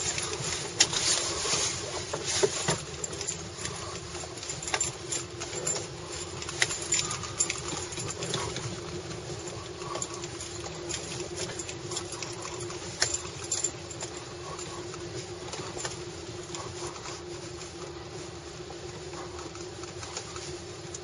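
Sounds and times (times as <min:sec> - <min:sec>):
low hum inside car: 0:00.0 - 0:21.0.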